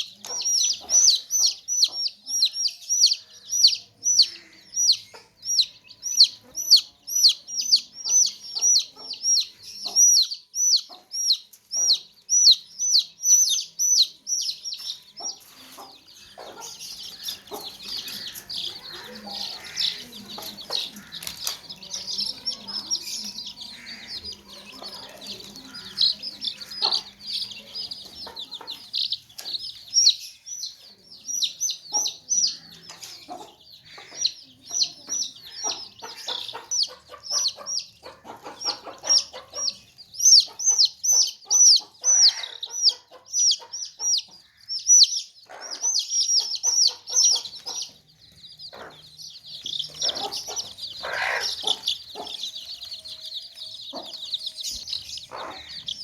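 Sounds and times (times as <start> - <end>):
baby chicks peeping: 0.0 - 56.0
chickens clucking: 0.0 - 56.0.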